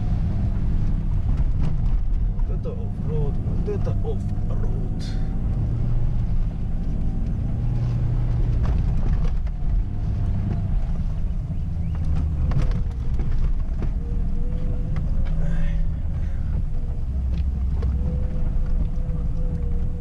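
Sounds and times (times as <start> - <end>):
car knocks and rattles: 0.0 - 4.3, 5.4 - 20.0
car engine droning: 0.0 - 20.0.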